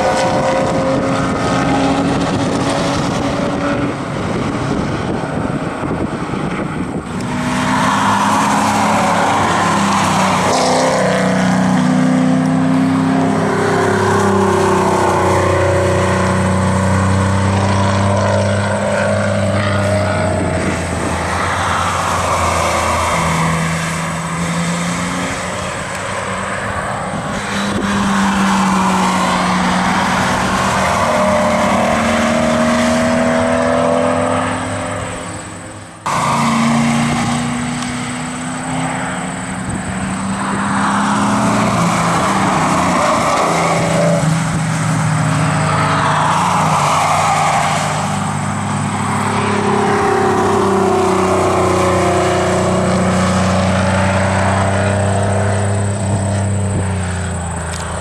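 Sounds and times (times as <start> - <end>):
sports car engines revving past: 0.0 - 58.0.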